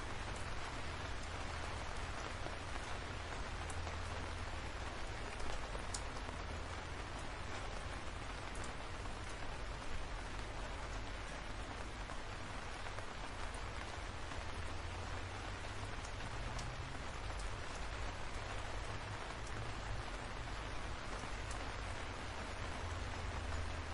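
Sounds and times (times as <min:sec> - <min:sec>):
rain falling on leafy trees: 0:00.0 - 0:23.9.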